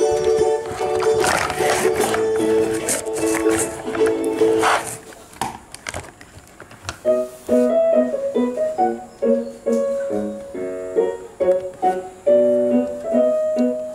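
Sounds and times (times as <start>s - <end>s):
piano music: 0.0s - 5.0s, 7.0s - 13.9s.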